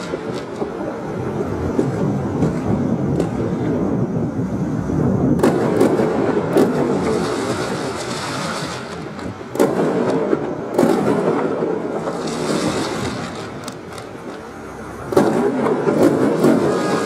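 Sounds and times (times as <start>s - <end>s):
fireworks bangs: 0.0s - 17.0s
fireworks crackle and rumble: 0.0s - 17.0s.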